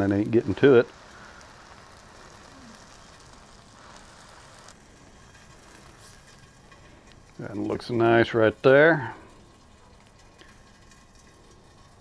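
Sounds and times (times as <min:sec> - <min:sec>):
buns sizzling on griddle: 0:00.0 - 0:12.0.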